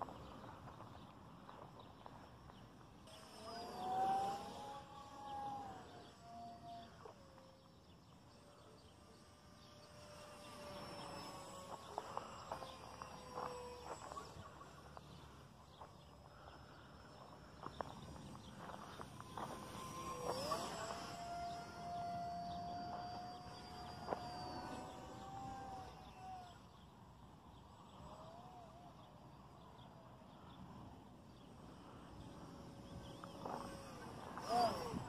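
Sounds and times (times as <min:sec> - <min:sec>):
model plane motor whine: 0:00.0 - 0:35.0.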